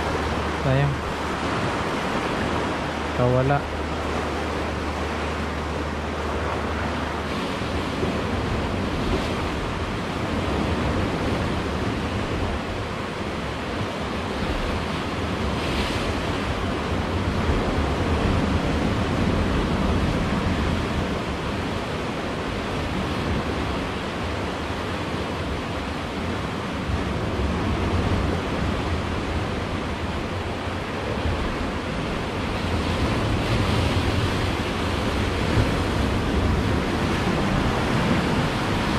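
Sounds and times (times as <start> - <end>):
waves breaking on rocks: 0.0 - 38.9.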